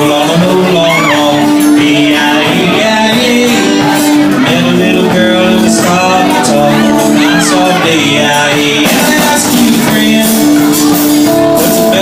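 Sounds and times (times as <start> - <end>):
live band music: 0.0 - 12.0
person singing: 0.0 - 12.0.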